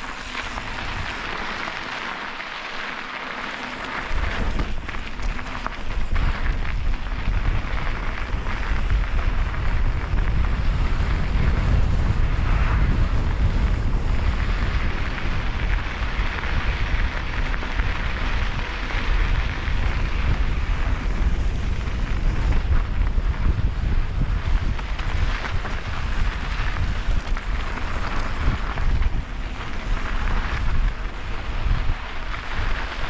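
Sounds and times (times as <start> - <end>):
bike tyres crunching on gravel: 0.0 - 33.0
wind buffeting microphone: 4.0 - 33.0.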